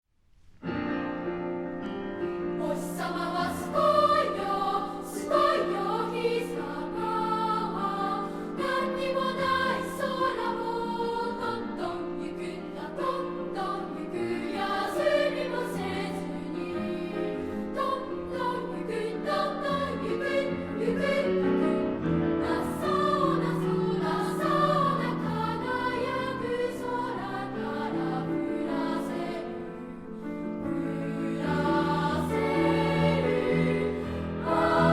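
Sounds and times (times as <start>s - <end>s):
children's choir singing: 2.6s - 34.9s.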